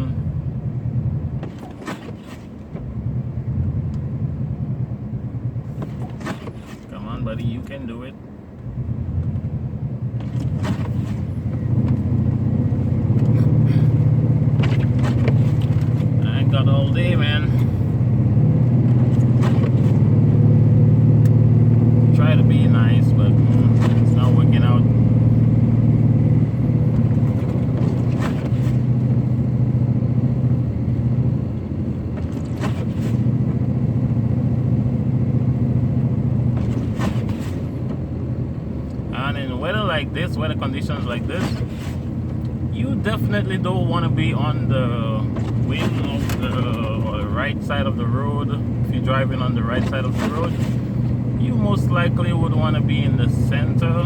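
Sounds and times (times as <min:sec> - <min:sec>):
truck engine and tyres on snow: 0:00.0 - 0:54.0.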